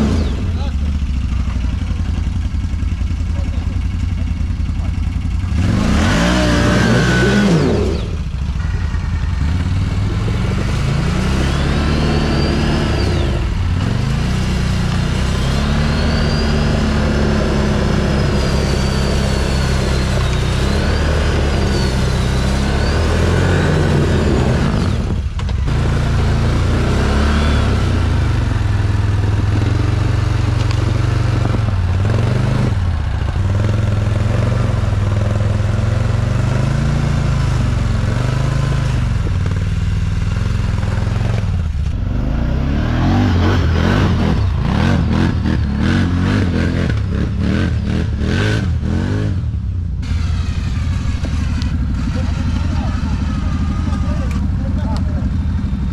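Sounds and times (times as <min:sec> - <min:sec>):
high engine whine: 0:00.0 - 0:55.9
quad bike engine revving: 0:00.0 - 0:55.9.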